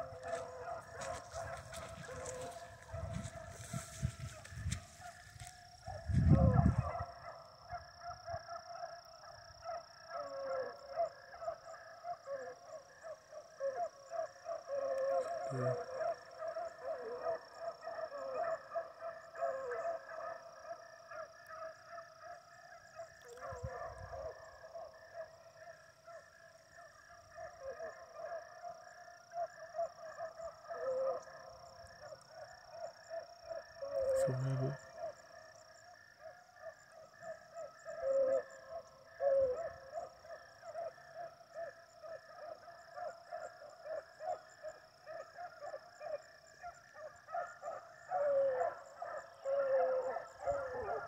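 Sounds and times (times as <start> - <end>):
beagles baying: 0.0 - 51.0.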